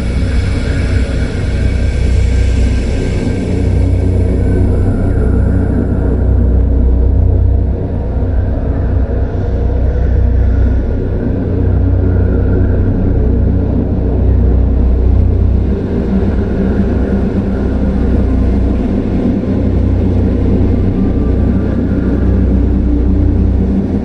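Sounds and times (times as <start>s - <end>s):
low rumbling drone: 0.0s - 24.0s.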